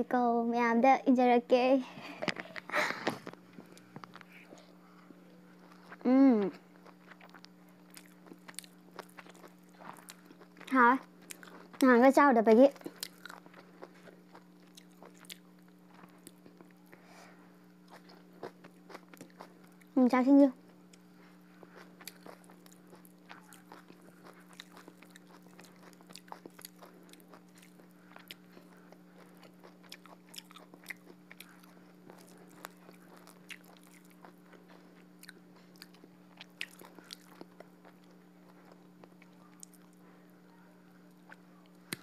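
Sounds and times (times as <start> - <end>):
faint electrical hum: 0.0 - 42.0
person chewing: 2.2 - 11.9, 12.8 - 17.0, 17.7 - 20.0, 20.7 - 40.0.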